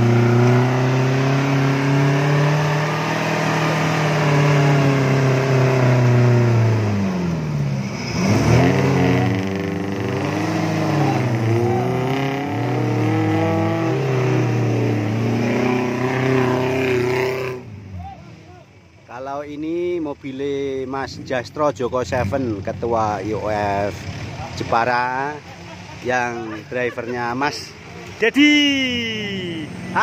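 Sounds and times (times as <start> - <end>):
off-road car engine revving: 0.0 - 18.9, 19.5 - 30.0.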